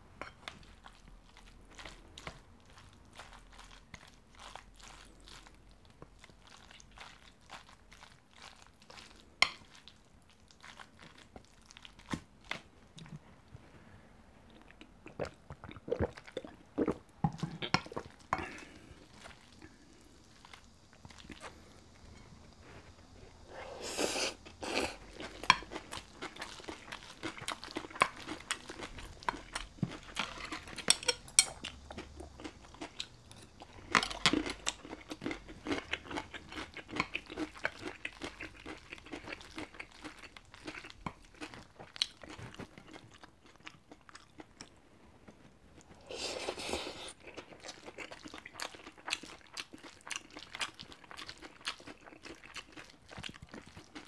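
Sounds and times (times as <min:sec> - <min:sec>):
person chewing and crunching food: 0:00.2 - 0:13.5, 0:14.4 - 0:54.0.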